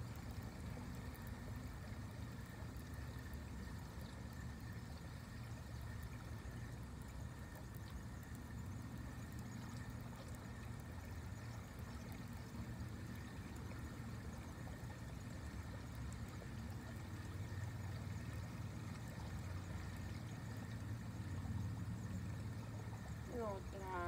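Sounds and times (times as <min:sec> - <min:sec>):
faint river hiss: 0:00.0 - 0:24.0
low river rumble: 0:00.0 - 0:24.0.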